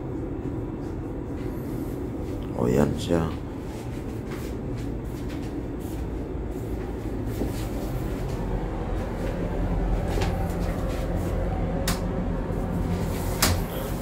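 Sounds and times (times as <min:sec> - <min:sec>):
stove burner flame rumbling: 0:00.0 - 0:14.0.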